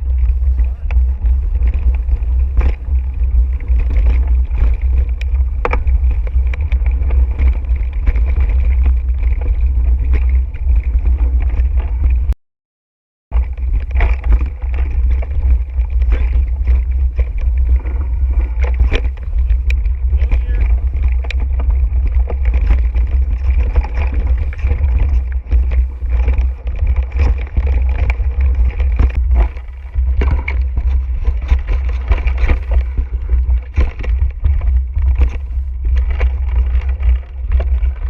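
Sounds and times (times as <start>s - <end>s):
bike clicks and clatter: 0.0s - 12.4s, 13.3s - 38.0s
wind rumbling on microphone: 0.0s - 12.4s, 13.3s - 38.0s.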